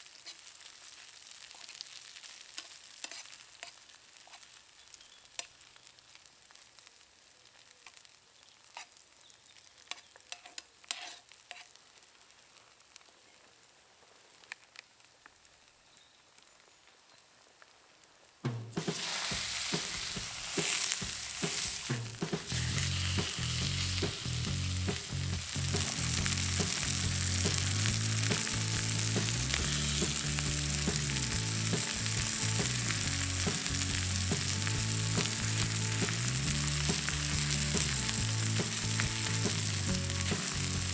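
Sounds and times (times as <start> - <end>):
steak sizzling loudly: 0.0 - 13.1, 18.7 - 40.9
onions frying quietly: 0.0 - 40.9.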